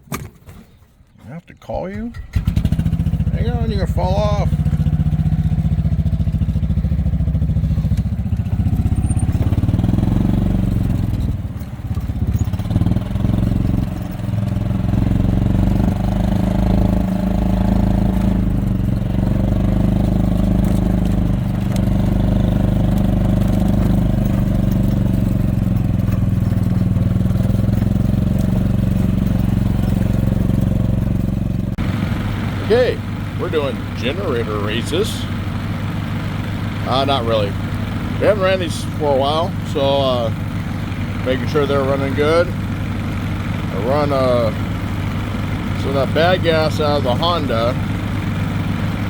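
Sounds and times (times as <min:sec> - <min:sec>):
small farm vehicle engine running: 0:02.0 - 0:49.0.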